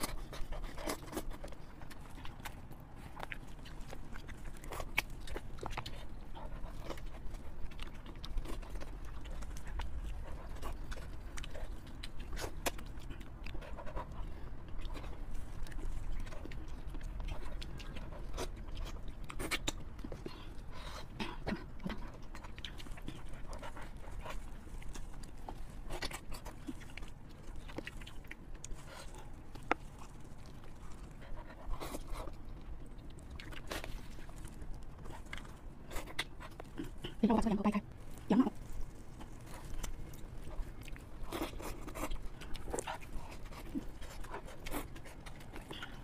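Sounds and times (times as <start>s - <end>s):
wet chewing and lip smacks: 0.0s - 46.0s.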